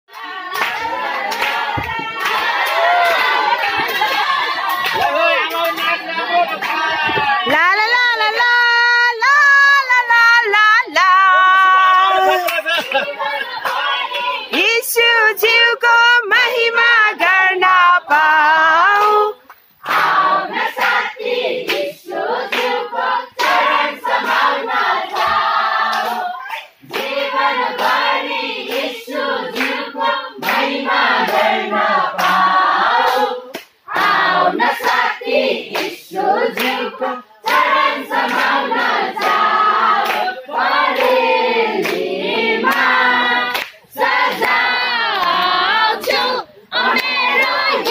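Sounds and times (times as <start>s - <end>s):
rhythmic hand clapping: 0.1s - 8.5s, 11.0s - 14.8s, 18.1s - 47.9s
congregation singing: 0.1s - 47.9s.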